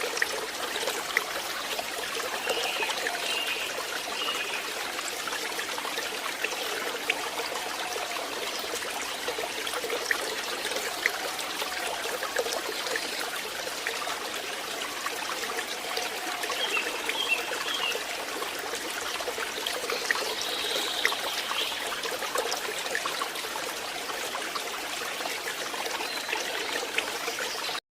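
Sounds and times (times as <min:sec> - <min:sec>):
stream trickling over stones: 0:00.0 - 0:27.8.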